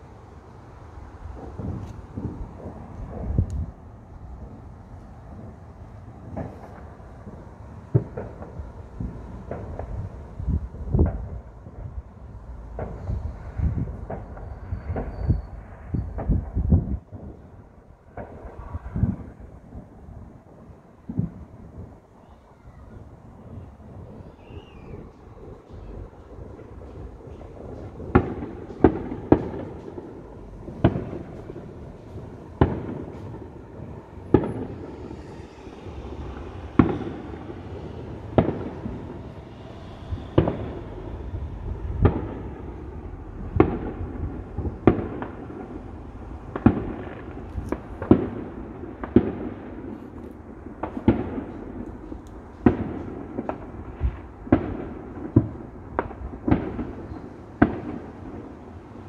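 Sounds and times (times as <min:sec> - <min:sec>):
low rumble of firework bursts: 0:00.0 - 0:59.0
fireworks bangs: 0:00.8 - 0:59.0.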